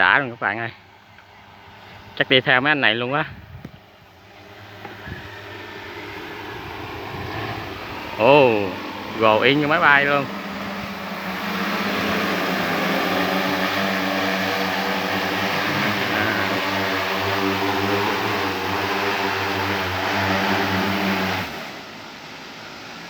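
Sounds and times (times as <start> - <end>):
drone rotors buzzing: 0.0 - 23.0.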